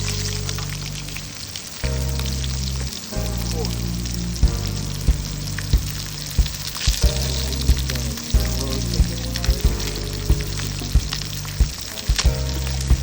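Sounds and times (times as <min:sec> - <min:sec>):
crackling hiss: 0:00.0 - 0:13.0
low chords music: 0:00.0 - 0:13.0
sharp beats: 0:01.8 - 0:13.0.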